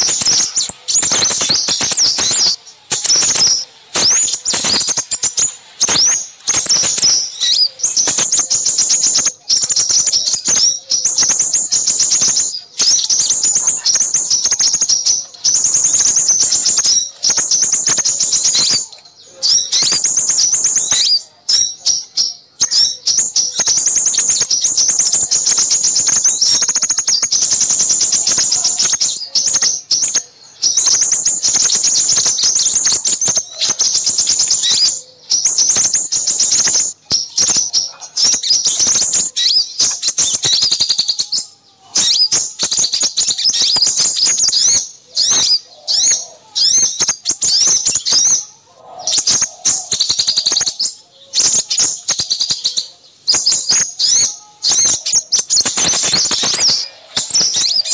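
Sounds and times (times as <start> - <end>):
small songbirds chirping and trilling: 0.0 - 57.9.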